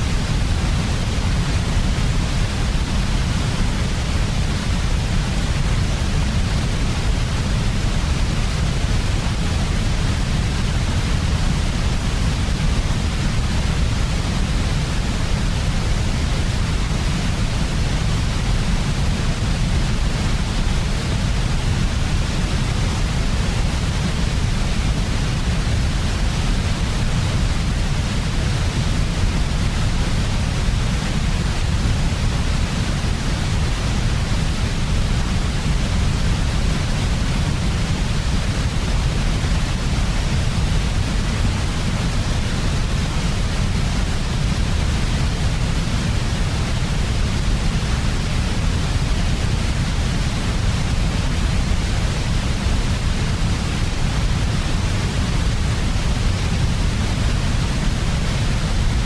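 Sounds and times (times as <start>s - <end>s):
white noise with deep rumble: 0.0s - 59.0s.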